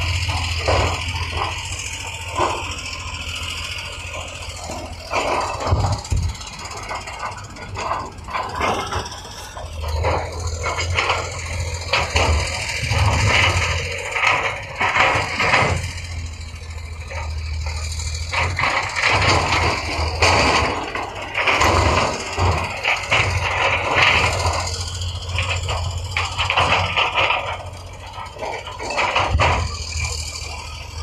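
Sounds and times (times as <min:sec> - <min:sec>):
heavy machinery diesel engine: 0:00.0 - 0:31.0
metal scraping rock and dirt: 0:00.0 - 0:31.0.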